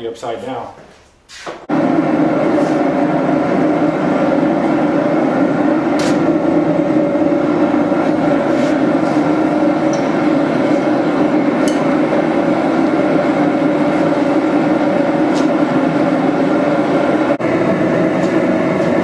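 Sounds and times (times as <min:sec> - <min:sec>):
forge burner rushing: 0:01.7 - 0:19.0.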